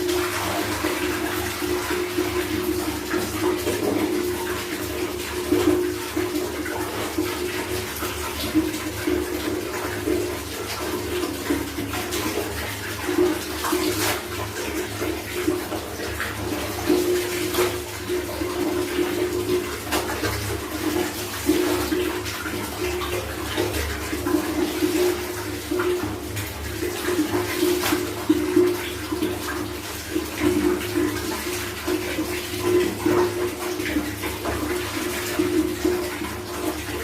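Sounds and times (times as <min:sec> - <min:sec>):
water splashing from hand washing: 0:00.0 - 0:37.0.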